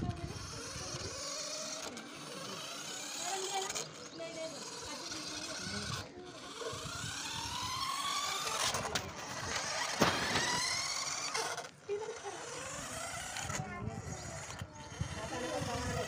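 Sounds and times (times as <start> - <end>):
toy truck motors whining: 0.0 - 16.0.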